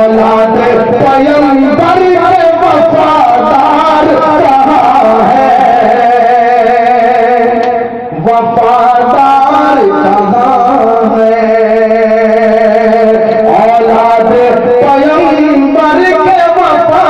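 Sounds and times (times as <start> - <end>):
man singing long held notes: 0.0 - 17.0.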